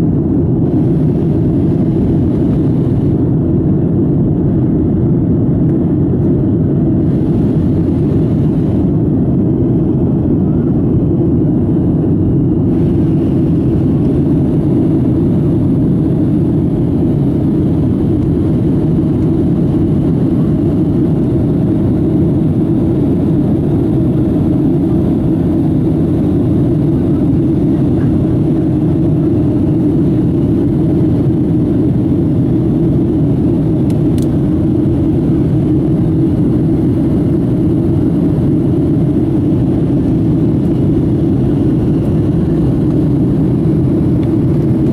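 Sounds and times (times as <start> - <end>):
jet engines rumbling in cabin: 0.0 - 44.9.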